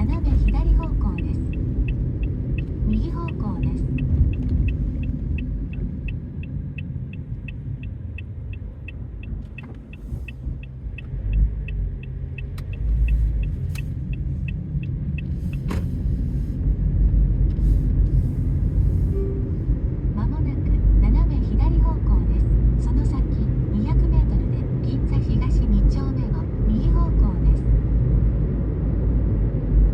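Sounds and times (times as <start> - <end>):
turn signal ticking: 0.0 - 27.9
car rumbling in motion: 0.0 - 29.9.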